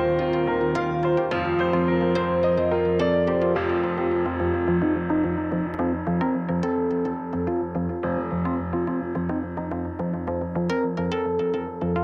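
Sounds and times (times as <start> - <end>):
electronic keyboard music: 0.0 - 12.0.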